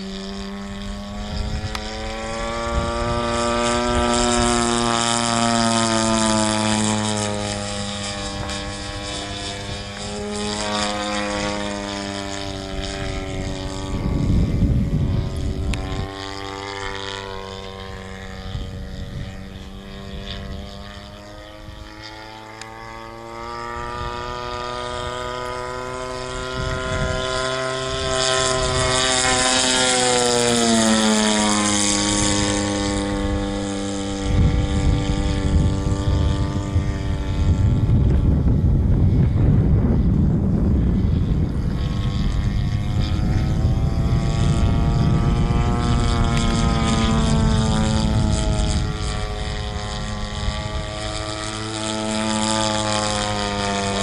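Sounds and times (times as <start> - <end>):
model plane engine and propeller: 0.0 - 54.0
wind gust on microphone: 0.1 - 22.3, 23.3 - 54.0.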